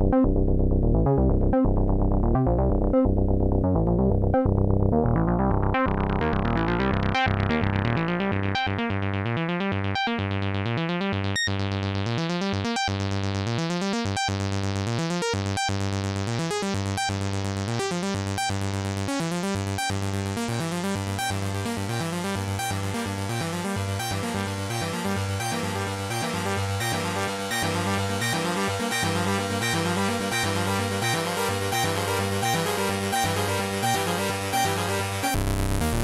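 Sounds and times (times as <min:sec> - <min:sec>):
synthesizer repeating note pattern: 0:00.0 - 0:36.0.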